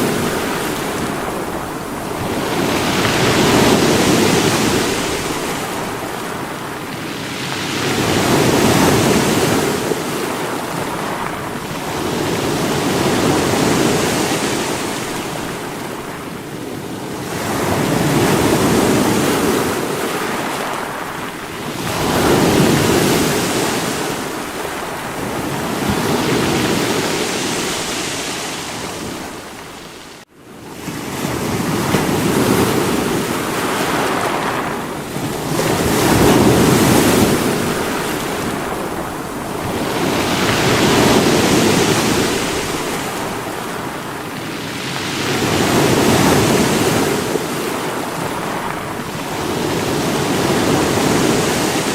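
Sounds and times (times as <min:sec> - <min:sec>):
sea waves breaking against rocks: 0:00.0 - 0:30.2, 0:30.8 - 0:51.9.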